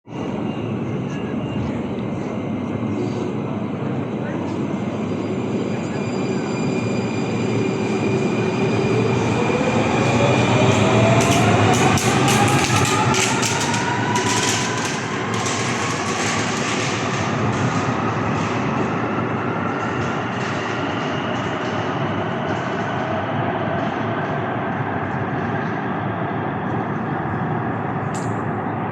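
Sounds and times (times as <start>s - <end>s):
tram motors whining: 0.1s - 25.7s
steel wheels rumbling on rails: 0.2s - 28.9s.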